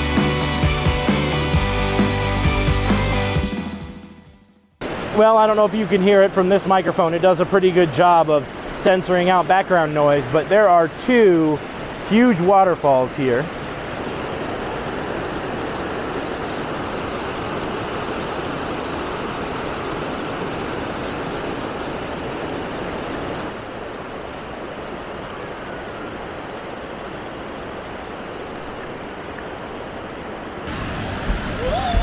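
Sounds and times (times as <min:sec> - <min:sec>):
waterfall rushing: 0:04.8 - 0:32.0.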